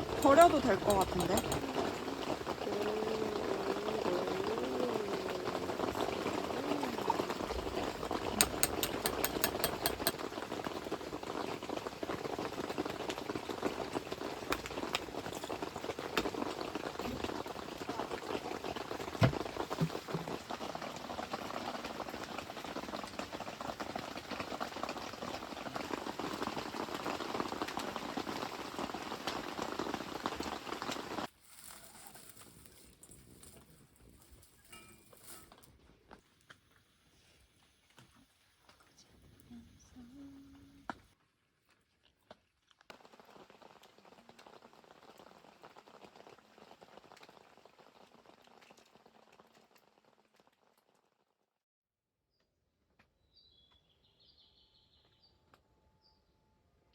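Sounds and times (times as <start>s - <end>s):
pot boiling and bubbling: 0.0s - 51.4s.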